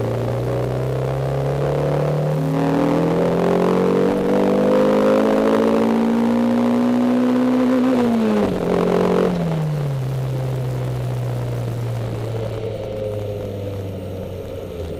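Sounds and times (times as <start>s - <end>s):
car engine revving in cabin: 0.0s - 14.9s.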